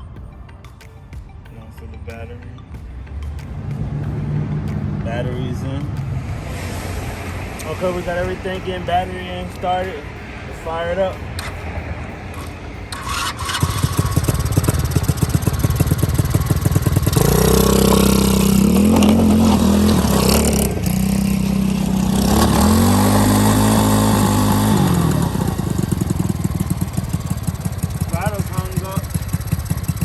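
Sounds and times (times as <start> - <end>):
dirt bike engine idling and revving: 2.6 - 30.0.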